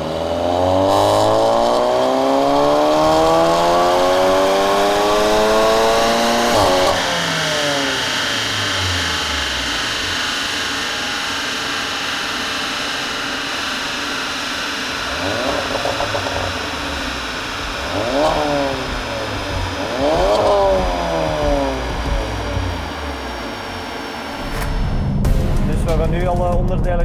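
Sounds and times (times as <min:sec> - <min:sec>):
car engine revving: 0:00.0 - 0:27.0
steady high whine: 0:00.0 - 0:27.0.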